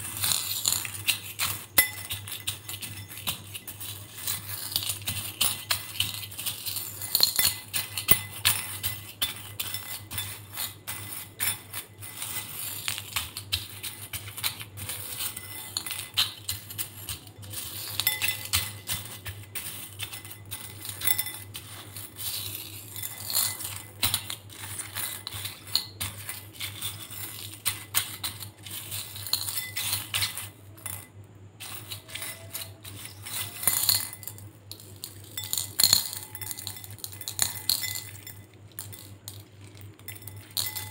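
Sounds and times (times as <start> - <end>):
beads clinking against glass: 0.0 - 40.9.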